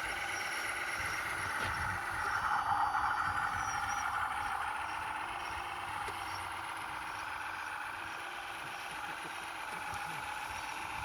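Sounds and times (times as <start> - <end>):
electric motors and gears whining: 0.0 - 11.0.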